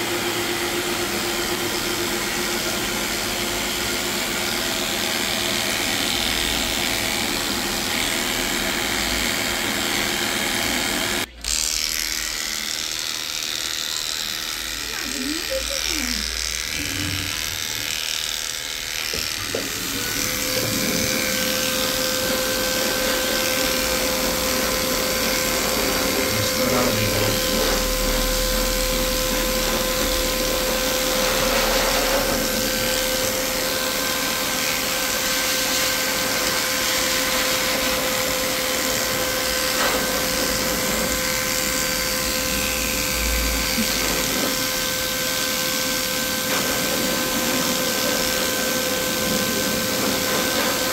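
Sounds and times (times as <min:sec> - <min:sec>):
electric clippers humming: 0:00.0 - 0:50.9.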